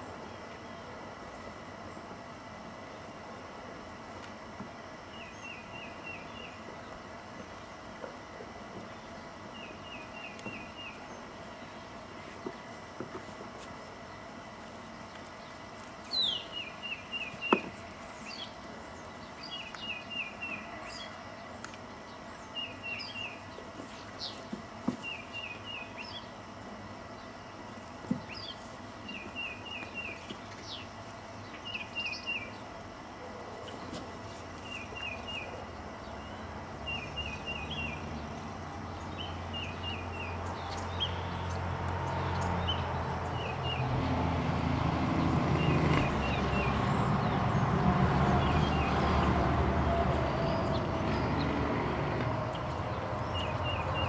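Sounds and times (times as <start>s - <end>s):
songbird chirping: 5.1s - 7.8s, 8.8s - 12.8s, 15.0s - 26.4s, 27.0s - 44.3s, 45.1s - 54.0s.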